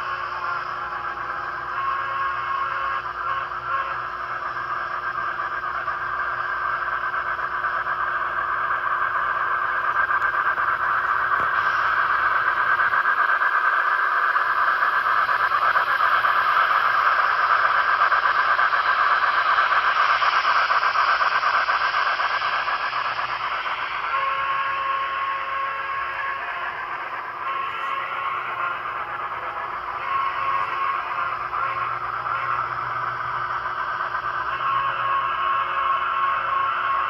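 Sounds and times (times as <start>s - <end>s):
model train rattling on rails: 0.0s - 37.0s.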